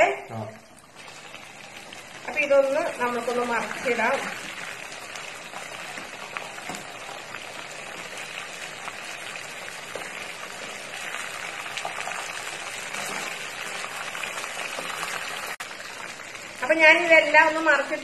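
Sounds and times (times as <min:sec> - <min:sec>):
chicken deep-frying in oil: 0:00.1 - 0:18.0.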